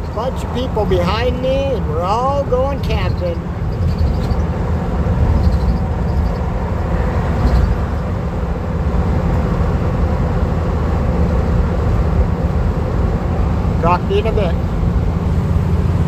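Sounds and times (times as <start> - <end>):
van engine and road noise: 0.0 - 16.0.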